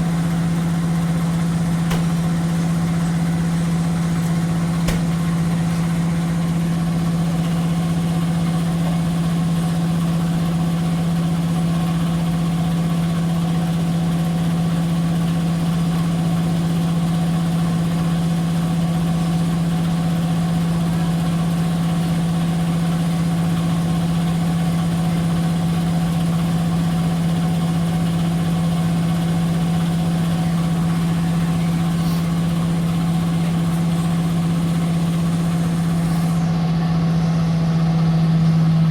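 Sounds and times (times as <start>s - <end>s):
washing machine spin hum: 0.0s - 38.9s.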